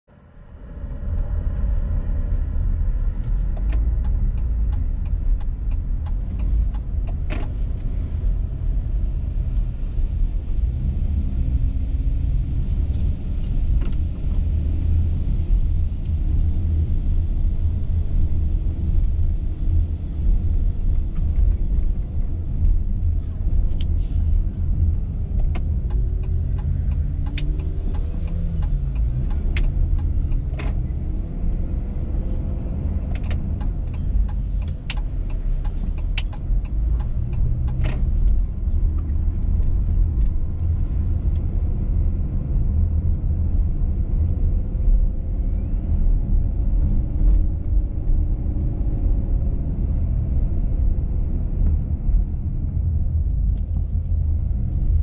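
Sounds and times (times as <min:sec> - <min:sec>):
road and engine rumble: 0:00.0 - 0:55.0.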